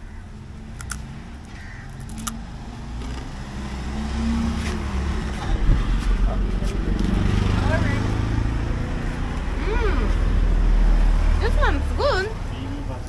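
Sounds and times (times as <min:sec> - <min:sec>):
vehicle engine passing by: 0:02.0 - 0:13.0.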